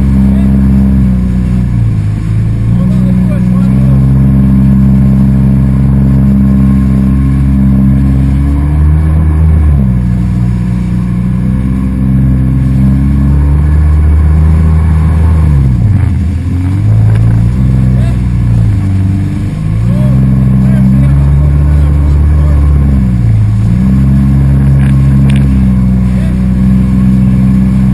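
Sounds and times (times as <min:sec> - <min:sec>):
motor engine running: 0:00.0 - 0:27.9.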